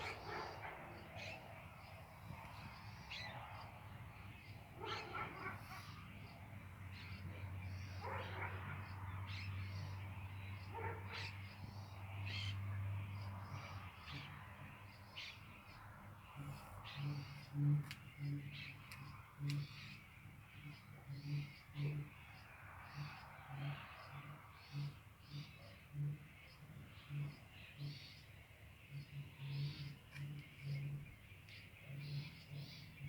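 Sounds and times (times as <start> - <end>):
birds calling: 0.0 - 23.8, 24.6 - 33.0.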